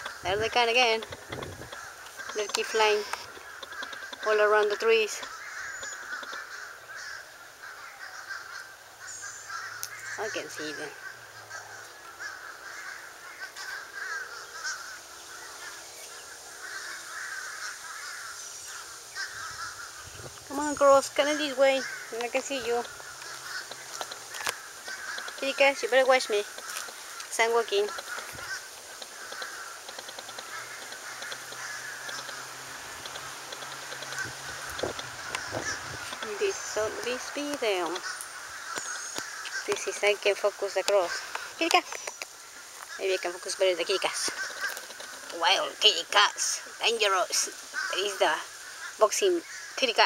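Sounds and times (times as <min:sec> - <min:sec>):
crows cawing: 0:00.0 - 0:50.0
faint high ticking calls: 0:00.0 - 0:50.0.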